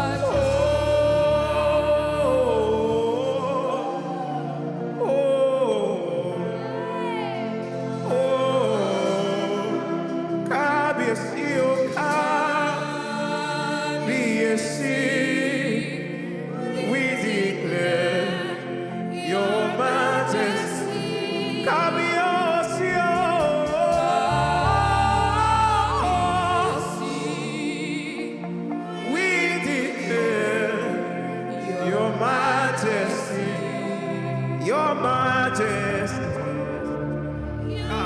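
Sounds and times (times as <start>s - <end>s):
held keyboard chords: 0.0s - 38.0s.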